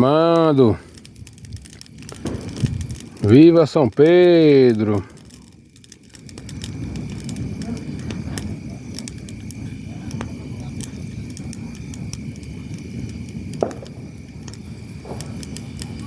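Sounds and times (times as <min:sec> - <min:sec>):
bonfire flames rumbling: 0:00.0 - 0:16.0
fire crackling: 0:00.0 - 0:16.0
loud pop from fire: 0:00.0 - 0:16.0.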